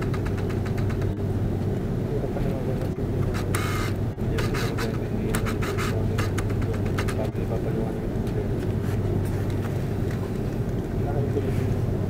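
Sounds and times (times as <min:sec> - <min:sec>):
airplane cabin engine hum: 0:00.0 - 0:12.0.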